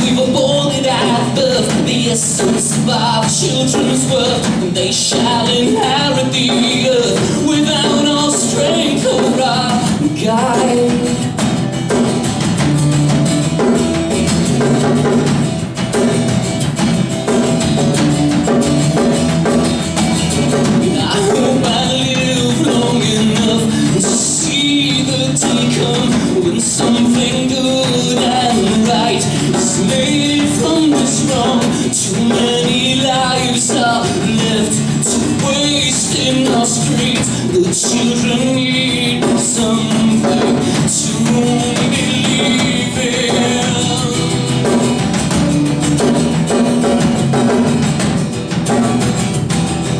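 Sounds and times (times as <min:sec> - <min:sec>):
percussion beat: 0:00.0 - 0:49.9
strummed acoustic guitar: 0:00.0 - 0:49.9.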